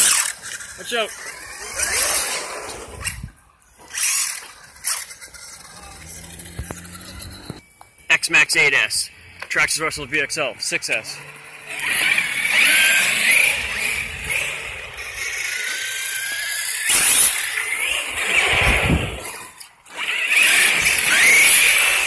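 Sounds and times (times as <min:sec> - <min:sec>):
electric rc car motors whining: 0:00.0 - 0:07.6, 0:10.7 - 0:22.0.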